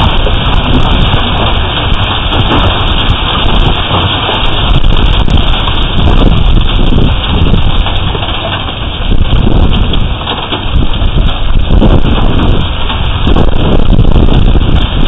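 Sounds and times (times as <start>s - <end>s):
hail and heavy rain pelting: 0.0s - 15.0s
wind buffeting microphone: 0.0s - 15.0s.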